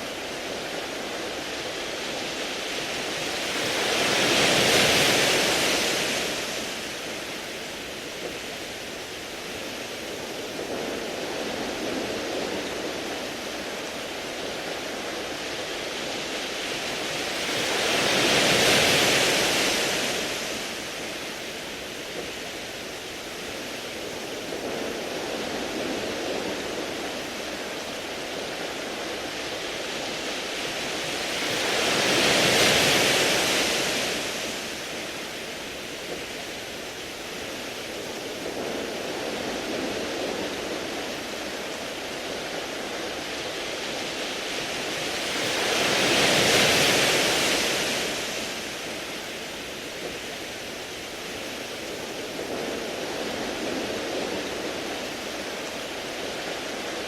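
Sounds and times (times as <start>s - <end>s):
waves washing over pebbles: 0.0s - 57.0s.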